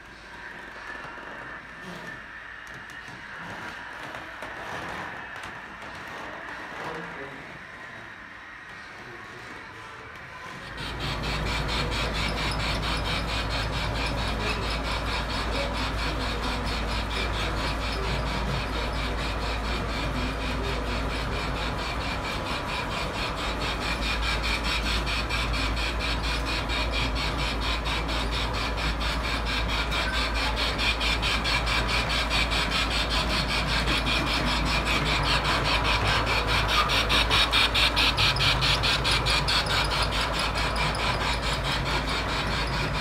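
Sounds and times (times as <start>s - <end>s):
model train running on track: 0.0s - 43.0s.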